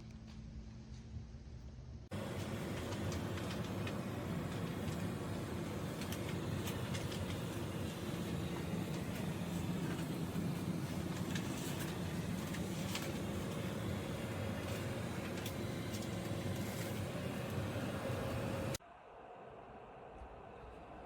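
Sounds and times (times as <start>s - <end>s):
heater fan whirring: 0.0s - 21.0s.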